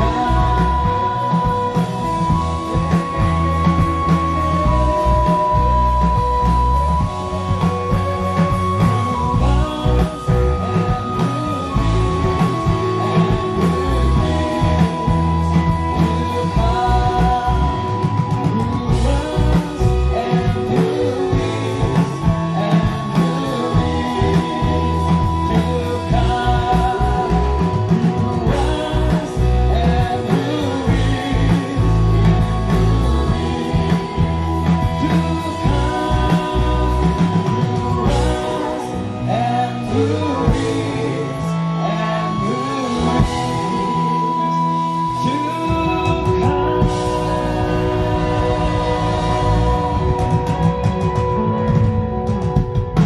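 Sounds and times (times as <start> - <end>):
voices singing together: 0.0 - 51.6
drum kit beat: 0.0 - 53.0
electric guitar: 0.0 - 53.0.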